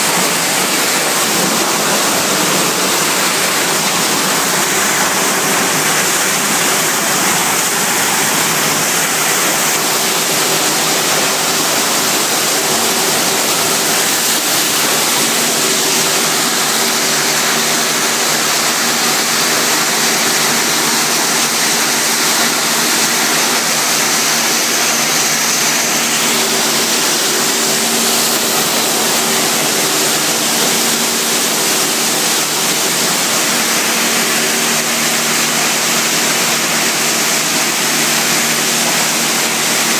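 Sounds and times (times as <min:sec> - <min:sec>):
washing machine rushing noise: 0:00.0 - 0:39.9.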